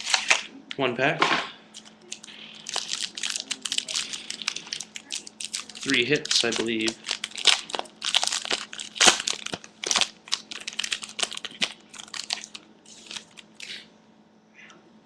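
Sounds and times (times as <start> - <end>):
wrapper crinkling and crackling: 0.0 - 0.5, 1.7 - 13.8.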